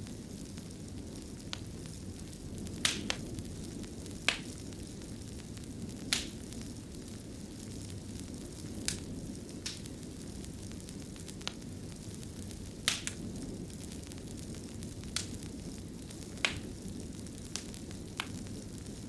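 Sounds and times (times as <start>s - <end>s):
low rumble of flames: 0.0s - 19.0s
wood fire popping: 0.0s - 19.0s.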